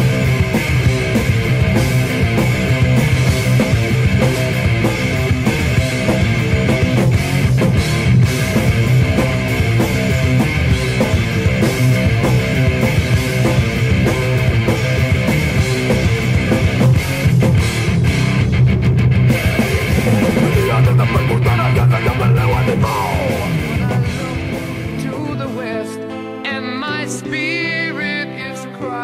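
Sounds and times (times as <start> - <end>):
rock music with guitar and drums: 0.0 - 29.0.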